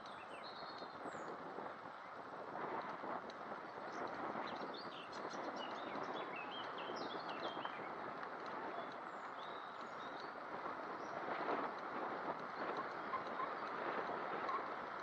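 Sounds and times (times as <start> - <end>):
wind and bicycle tyre noise: 0.0 - 15.0.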